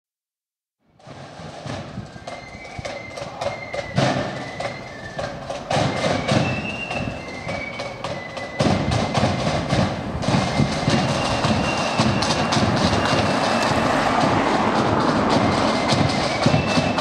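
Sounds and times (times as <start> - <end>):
side drum strokes: 1.0 - 17.0
flute notes: 1.2 - 17.0.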